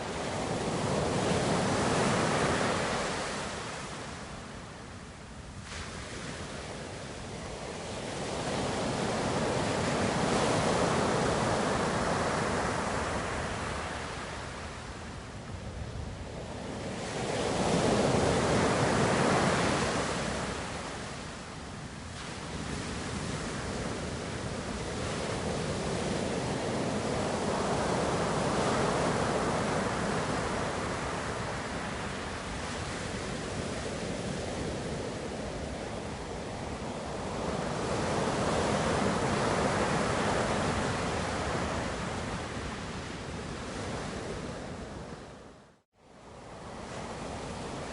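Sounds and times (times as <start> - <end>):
ocean waves rolling in: 0.0 - 47.9.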